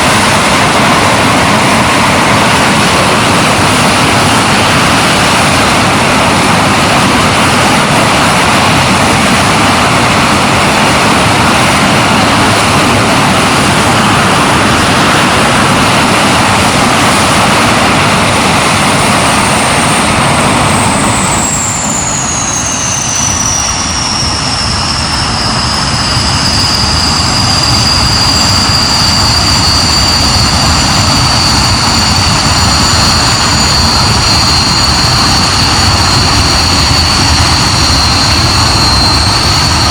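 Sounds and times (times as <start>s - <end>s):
high whistling whine: 0.0s - 39.9s
jet engine roaring: 0.0s - 39.9s.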